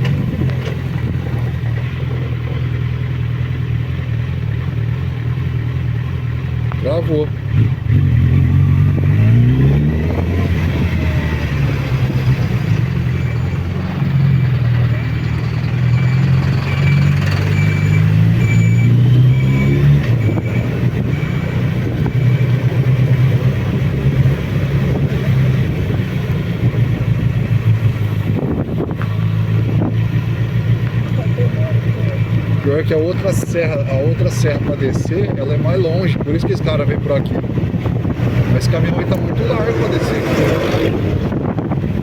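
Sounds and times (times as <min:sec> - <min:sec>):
motorcycle engine running: 0:00.0 - 0:18.3, 0:20.0 - 0:39.9.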